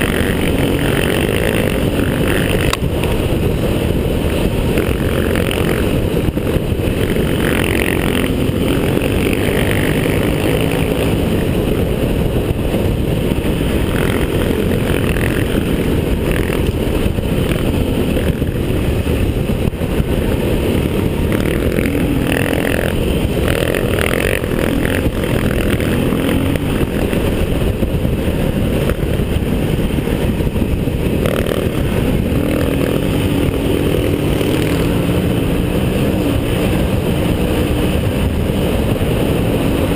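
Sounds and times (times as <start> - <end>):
motorcycle engine running hard: 0.0 - 39.9
wind and riding noise: 0.0 - 39.9.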